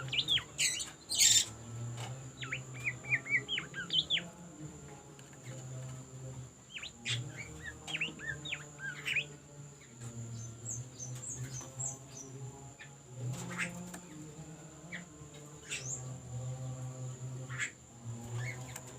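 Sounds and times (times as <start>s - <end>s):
songbird chirping: 0.0s - 18.9s.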